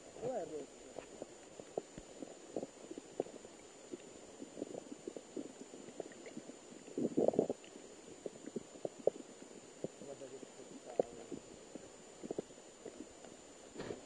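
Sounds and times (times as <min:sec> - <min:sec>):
underwater bubbles clicking and popping: 0:00.0 - 0:13.8.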